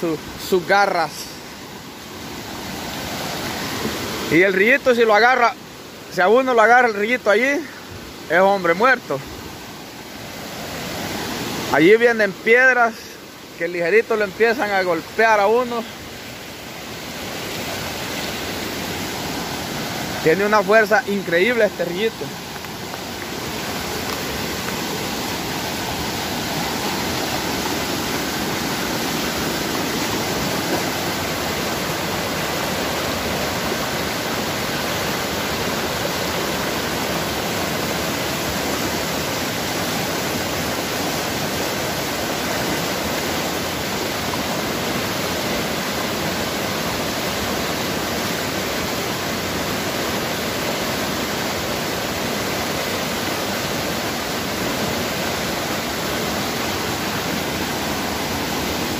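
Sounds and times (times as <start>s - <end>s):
water rushing over rocks: 0.0s - 58.9s.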